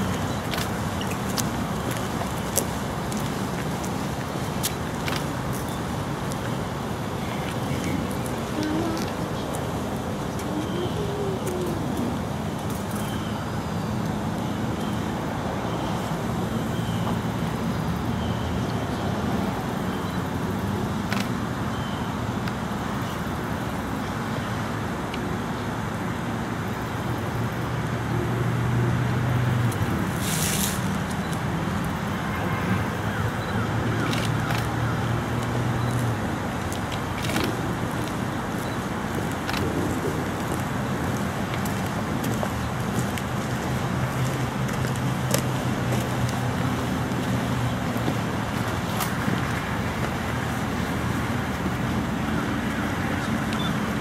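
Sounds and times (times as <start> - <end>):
road traffic engine hum: 0.0 - 54.0.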